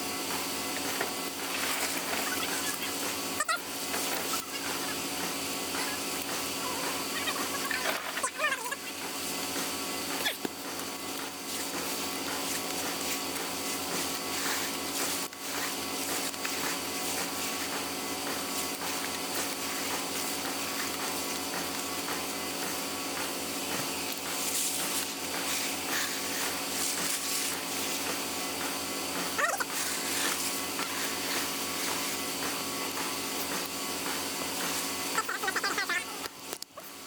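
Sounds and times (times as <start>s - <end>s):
machine engine humming: 0.0s - 37.0s.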